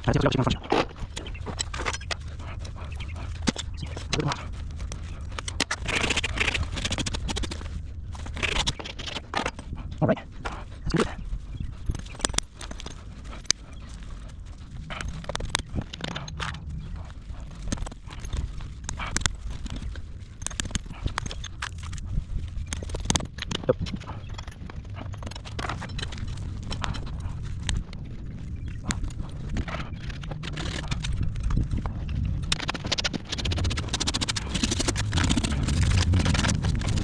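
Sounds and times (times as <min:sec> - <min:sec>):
horse hooves on hard ground: 0:00.0 - 0:37.0
low rumble: 0:00.0 - 0:37.0.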